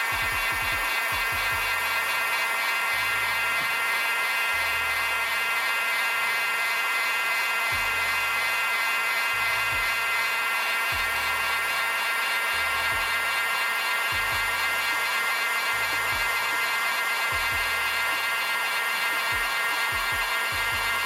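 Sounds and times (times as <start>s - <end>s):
heat gun motor whine: 0.0s - 21.0s
rush of hot air: 0.0s - 21.0s.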